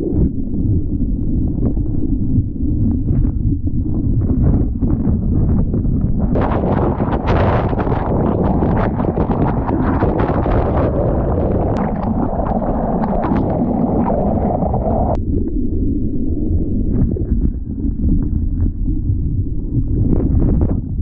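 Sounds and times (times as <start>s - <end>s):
muffled surf splashing: 0.0s - 21.0s.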